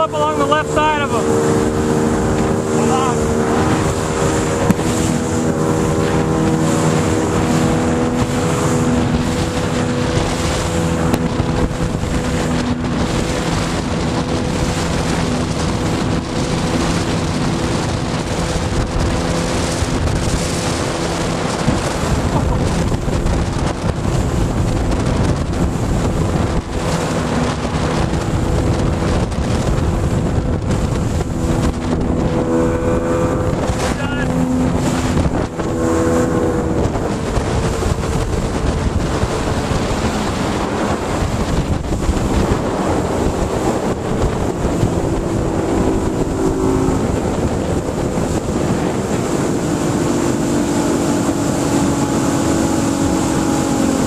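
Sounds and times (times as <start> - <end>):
motorboat engines droning: 0.0 - 54.0
water rushing past hull: 0.0 - 54.0
wind buffeting microphone: 0.0 - 54.0.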